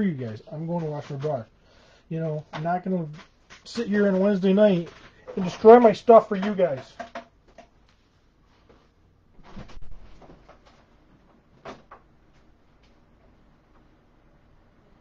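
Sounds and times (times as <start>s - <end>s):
shuffling: 0.0s - 7.0s, 7.8s - 13.4s.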